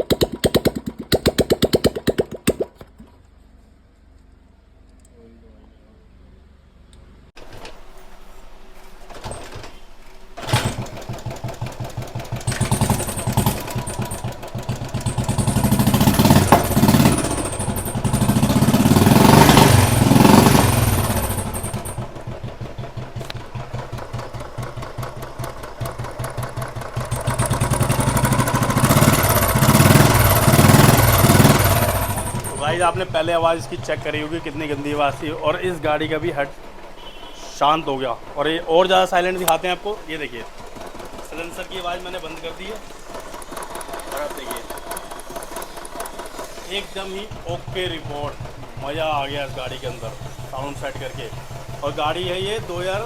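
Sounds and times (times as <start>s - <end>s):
motorcycle engine starting and revving: 0.0s - 3.3s, 7.4s - 53.0s.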